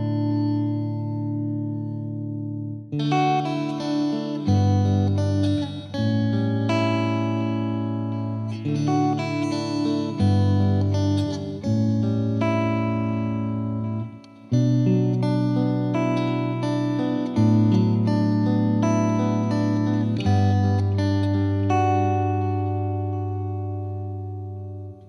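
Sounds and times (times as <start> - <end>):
guitar chords: 0.0 - 25.0.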